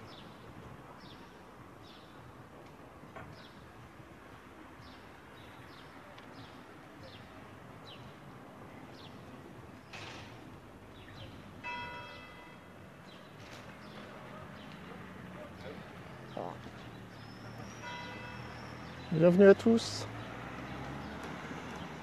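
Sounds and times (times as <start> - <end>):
faint town ambience: 0.0 - 22.0.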